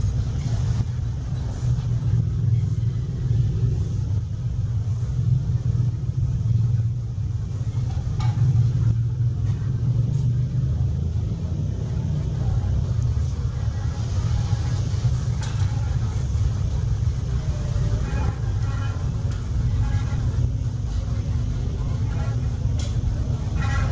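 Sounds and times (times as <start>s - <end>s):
low rumble: 0.0s - 23.9s.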